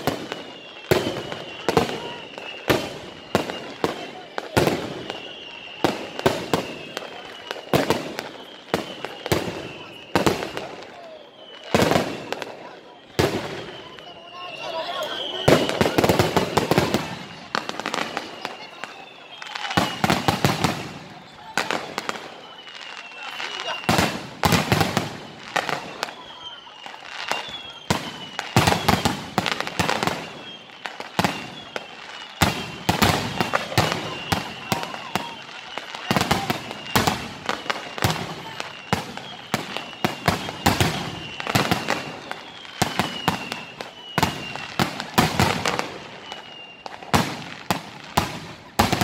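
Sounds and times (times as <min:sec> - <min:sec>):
falling firework whistles: 0:00.0 - 0:49.0
fireworks bursting: 0:00.0 - 0:49.0.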